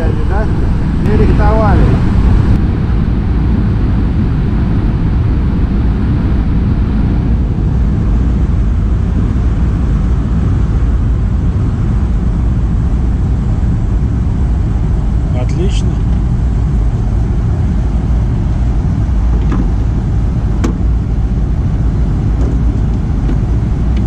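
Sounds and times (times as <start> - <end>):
chiller machinery rumbling: 0.0 - 24.0.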